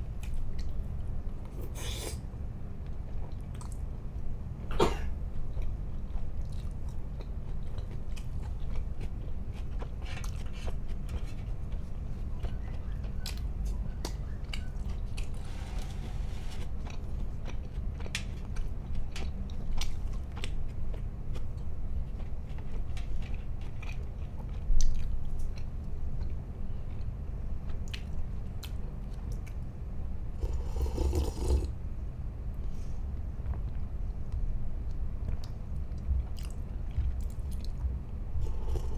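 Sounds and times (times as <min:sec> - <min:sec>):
chewing and crunching food: 0:00.0 - 0:02.0, 0:02.7 - 0:04.4, 0:05.2 - 0:31.7, 0:33.4 - 0:38.9
steady low hum: 0:00.0 - 0:38.9.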